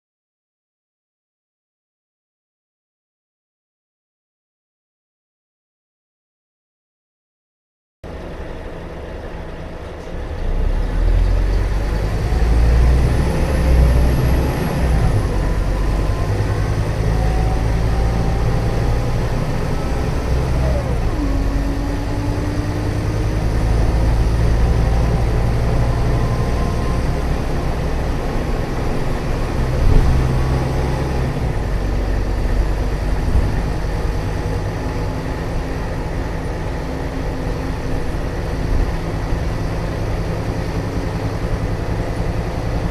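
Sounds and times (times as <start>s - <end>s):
diesel bus engine rumbling: 8.0s - 42.9s.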